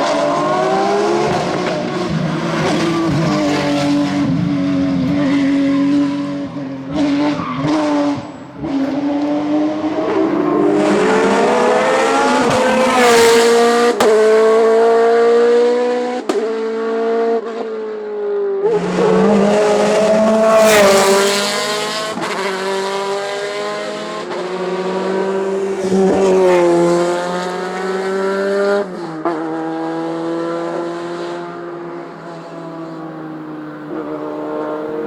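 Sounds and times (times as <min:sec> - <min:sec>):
race car engine at full throttle: 0:00.0 - 0:35.0.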